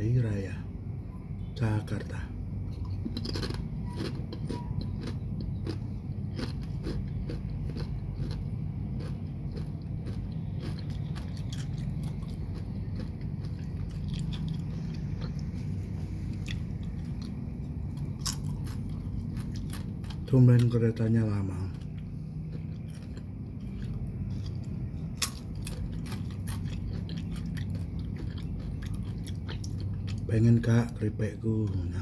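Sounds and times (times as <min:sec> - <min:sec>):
low rumble: 0:00.6 - 0:31.1
person chewing crunchy chips: 0:02.6 - 0:31.0.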